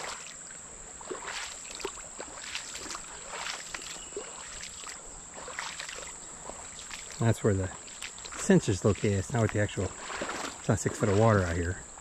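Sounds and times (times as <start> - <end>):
footsteps splashing through water: 0.0 - 0.4, 1.0 - 11.8
creek flowing over rocks: 1.0 - 11.9.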